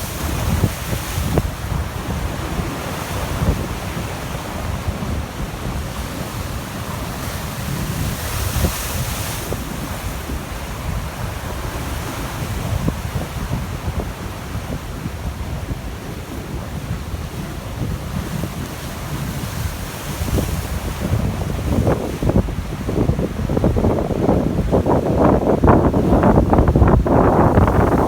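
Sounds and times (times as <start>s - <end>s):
sea waves breaking: 0.0s - 28.0s
wind buffeting microphone: 0.0s - 28.0s.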